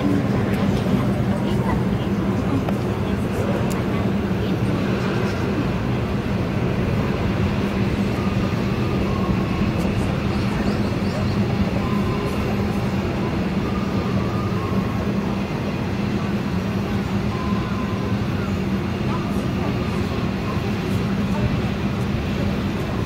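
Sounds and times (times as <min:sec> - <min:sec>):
cable car mechanical hum: 0:00.0 - 0:23.0.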